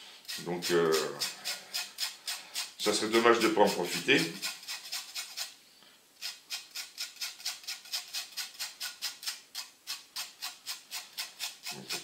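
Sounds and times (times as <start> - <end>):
lemon peel grated on metal grater: 0.2 - 5.5, 6.2 - 12.0.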